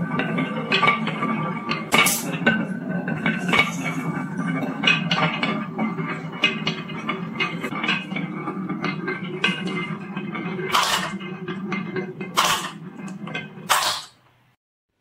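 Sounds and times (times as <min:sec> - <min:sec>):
marbles rolling on wooden track: 0:00.0 - 0:14.4.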